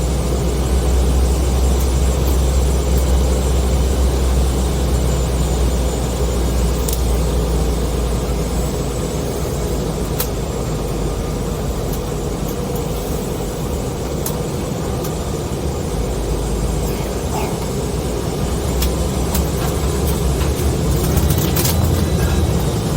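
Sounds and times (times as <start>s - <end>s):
jet engines rumbling: 0.0s - 22.9s.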